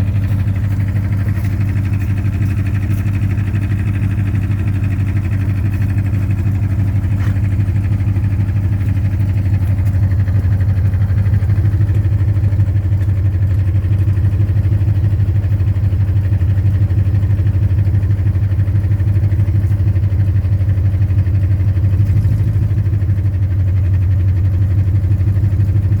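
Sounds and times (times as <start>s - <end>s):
car engine idling with knock: 0.0s - 26.0s.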